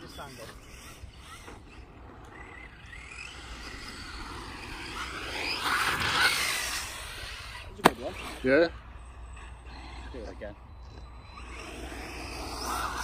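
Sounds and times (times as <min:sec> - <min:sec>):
rc car motor whine: 0:00.0 - 0:13.0.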